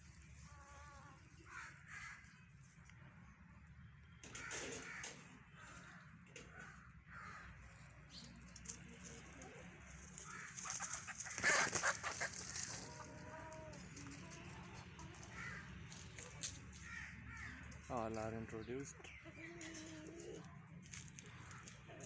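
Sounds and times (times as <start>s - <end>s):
chickens clucking: 4.3s - 22.0s.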